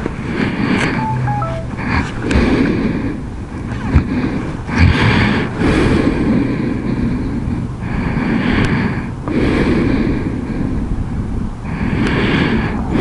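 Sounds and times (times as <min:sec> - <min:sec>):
wind rushing over microphone: 0:01.8 - 0:13.0.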